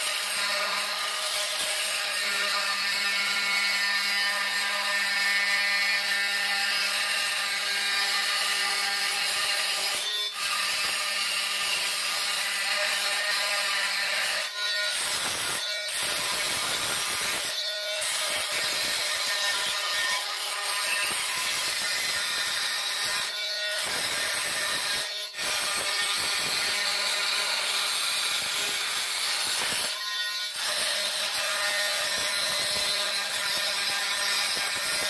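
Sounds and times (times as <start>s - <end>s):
multi-tool grinding grout: 0.0s - 35.0s.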